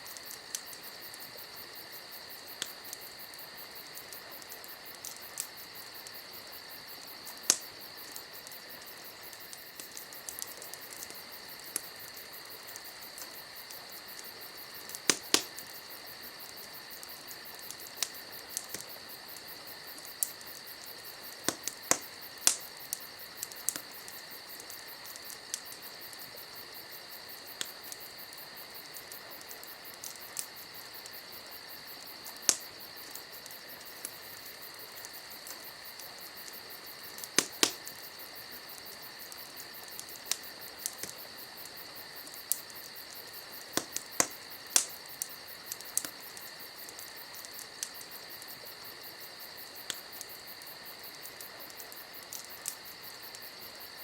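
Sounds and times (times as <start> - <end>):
campfire pops and crackles: 0.0 - 54.0
crickets chirping: 0.0 - 54.0.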